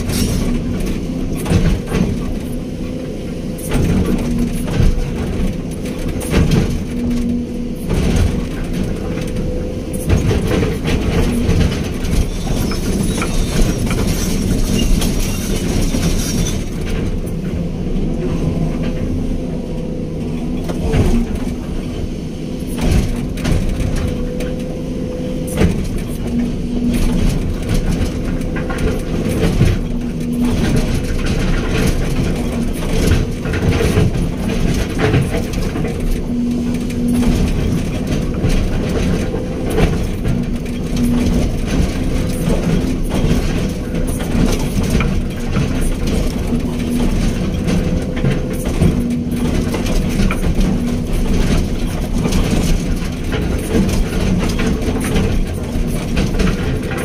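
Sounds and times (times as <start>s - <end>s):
excavator diesel engine running: 0.0s - 57.0s
knocks and clanks: 0.0s - 57.0s.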